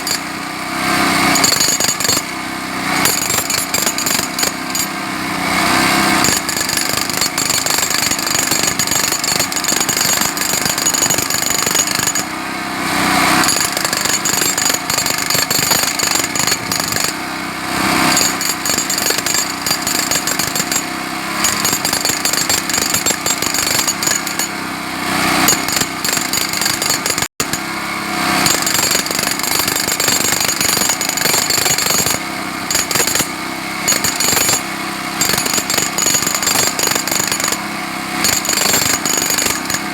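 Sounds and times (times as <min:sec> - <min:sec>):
jackhammer hammering: 0:00.0 - 0:39.9.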